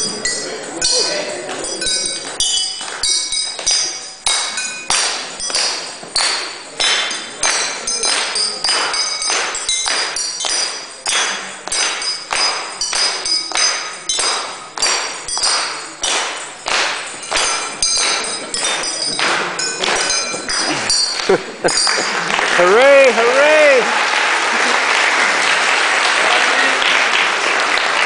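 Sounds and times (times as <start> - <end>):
water glasses struck playing tune: 0.0 - 24.0.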